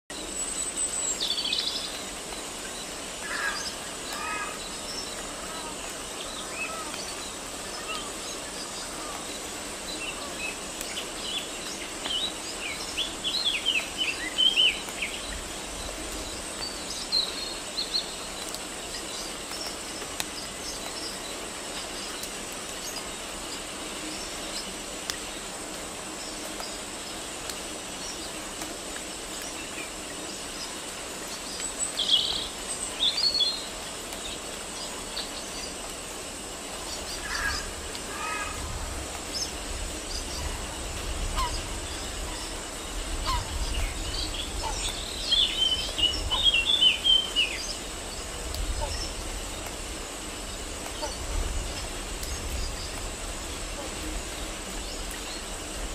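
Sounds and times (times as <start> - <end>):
small birds chirping: 0.1 - 55.9
steady outdoor hiss: 0.1 - 55.9.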